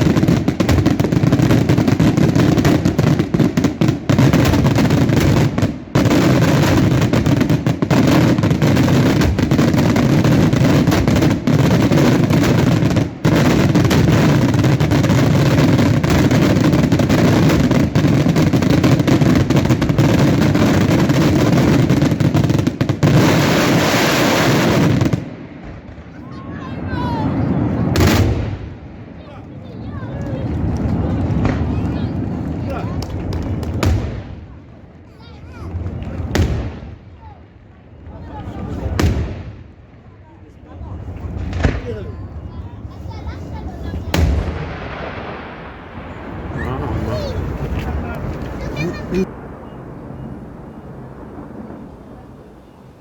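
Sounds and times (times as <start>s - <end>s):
fireworks crackling roar: 0.0s - 53.0s.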